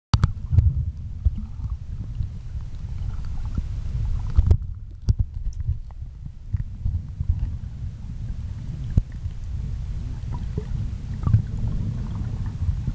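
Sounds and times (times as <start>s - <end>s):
underwater water rumble: 0.2s - 12.9s.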